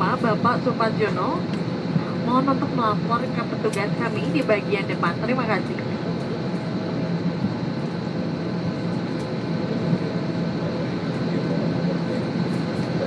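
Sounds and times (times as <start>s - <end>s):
airliner cabin rumble: 0.0s - 13.0s
high steady whine: 0.0s - 13.0s.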